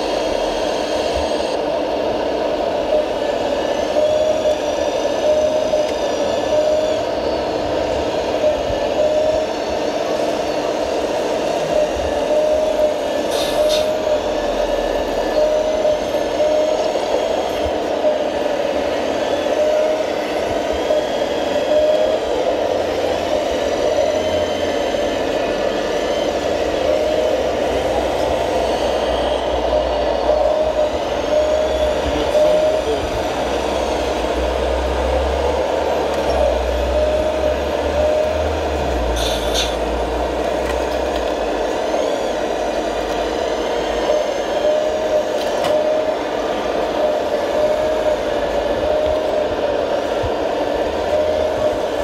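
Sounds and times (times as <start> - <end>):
model excavator motor whine: 0.0 - 52.0.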